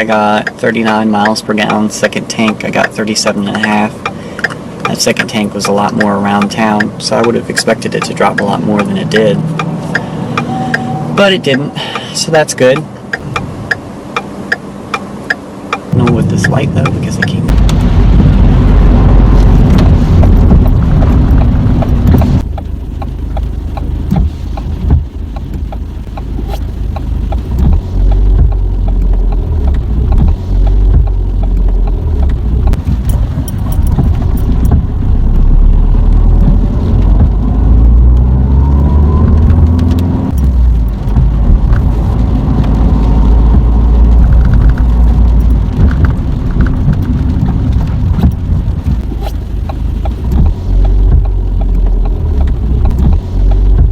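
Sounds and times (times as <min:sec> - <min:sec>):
car engine and road rumble: 0:00.0 - 0:53.9.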